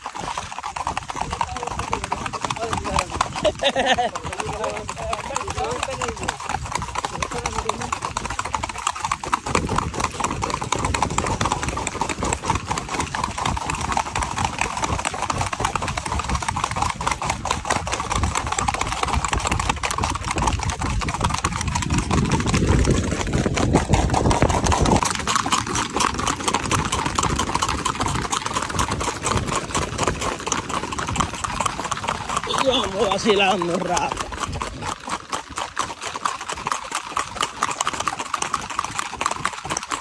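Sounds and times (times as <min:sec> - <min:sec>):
horse hooves on asphalt: 0:00.0 - 0:40.0.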